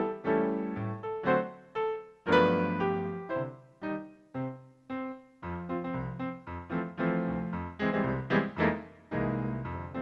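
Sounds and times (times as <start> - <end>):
piano notes and chords: 0.0 - 10.0.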